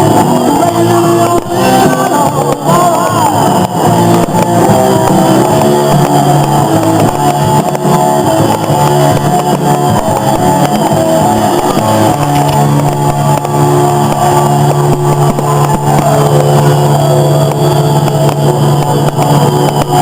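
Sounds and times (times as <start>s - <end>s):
loud rock music with guitar: 0.0s - 20.0s.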